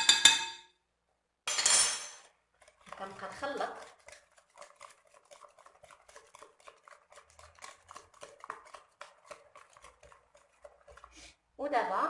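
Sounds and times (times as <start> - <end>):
utensil mixing batter in a bowl: 2.3 - 12.0.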